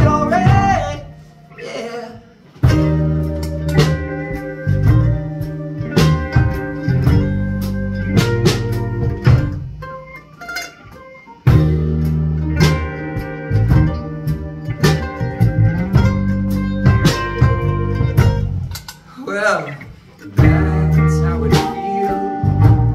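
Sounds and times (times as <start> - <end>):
electric bass: 0.0 - 1.3, 2.6 - 10.4, 11.4 - 18.9, 20.4 - 22.9
drums: 0.0 - 22.9
electric guitar: 0.0 - 22.9.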